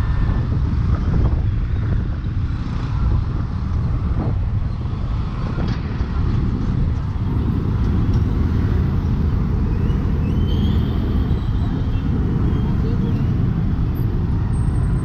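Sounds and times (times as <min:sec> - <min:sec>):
low rumble of engines: 0:00.0 - 0:15.0
wind on microphone: 0:00.0 - 0:15.0.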